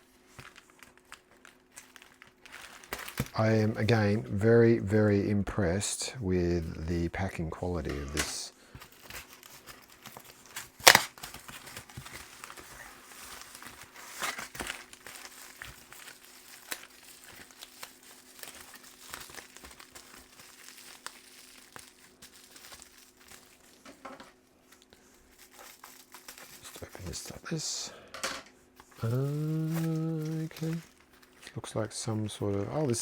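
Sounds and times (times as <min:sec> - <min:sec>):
packing material crinkling: 0:00.0 - 0:04.8, 0:07.9 - 0:27.8, 0:28.8 - 0:33.0.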